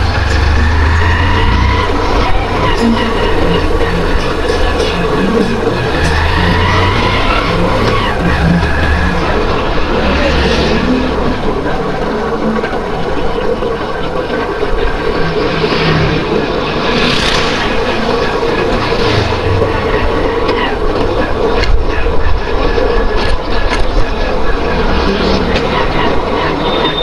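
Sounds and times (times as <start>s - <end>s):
traffic engine hum: 0.0s - 27.0s
vehicles passing: 0.0s - 27.0s.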